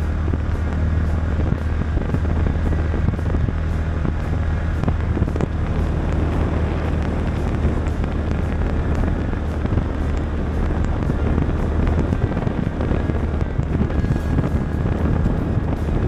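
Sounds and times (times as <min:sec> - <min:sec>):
single-cylinder engine running: 0:00.0 - 0:16.0
wind buffeting microphone: 0:00.0 - 0:16.0.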